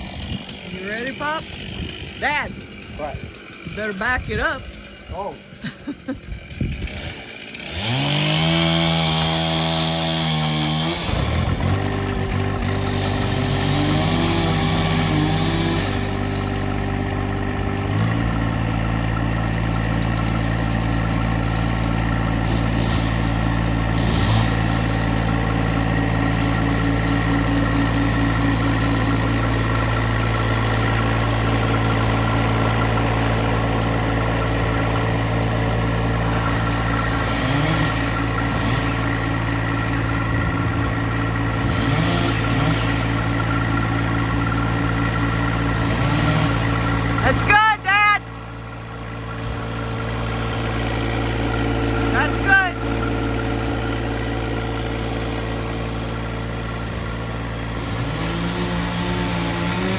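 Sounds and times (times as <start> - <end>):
vehicle engine starting and running: 0.0 - 59.9.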